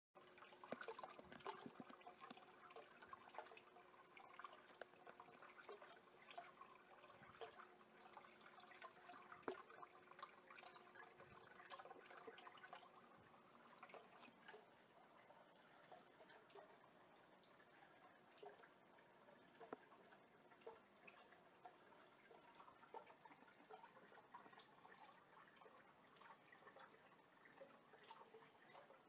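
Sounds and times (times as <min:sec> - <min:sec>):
water drips and trickling: 0:00.2 - 0:29.0.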